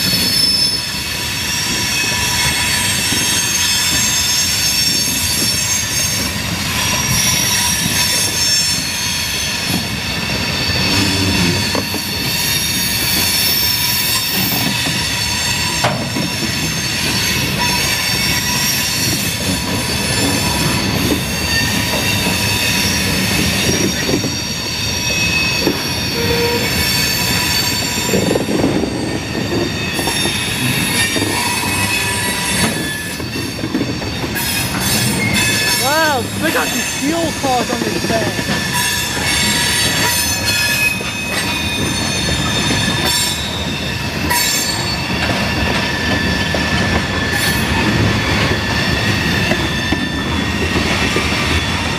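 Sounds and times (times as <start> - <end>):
rumble of train cars: 0.0 - 51.9
train wheels squealing: 0.0 - 51.9.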